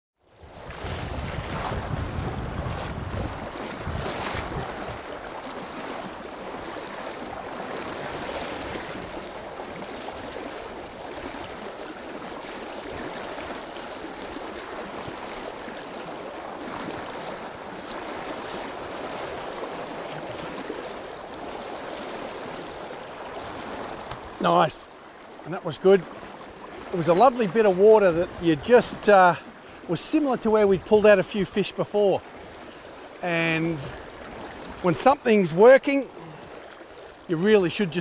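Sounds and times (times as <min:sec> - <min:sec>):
river rushing around legs: 0:00.3 - 0:38.0.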